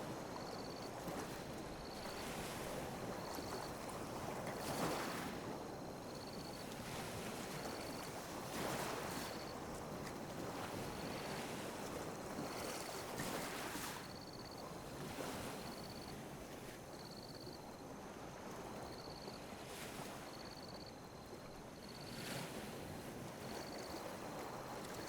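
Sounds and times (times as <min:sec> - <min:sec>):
ocean waves lapping on beach: 0:00.0 - 0:25.0.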